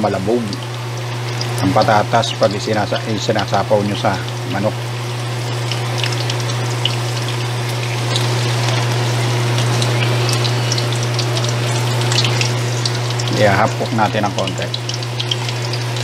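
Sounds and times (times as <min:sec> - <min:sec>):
potatoes frying in oil: 0:00.0 - 0:16.0.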